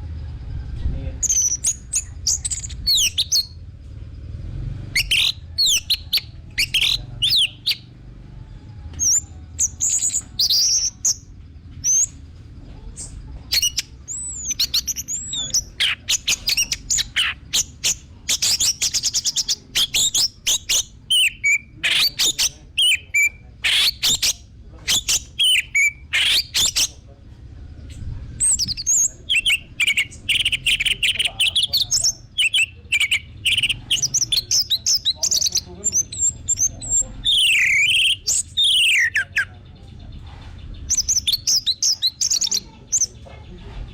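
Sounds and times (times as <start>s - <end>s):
thrush singing whistles and chirps: 1.2s - 3.6s, 4.9s - 7.9s, 9.0s - 12.2s, 13.0s - 27.0s, 28.4s - 39.5s, 40.9s - 43.1s.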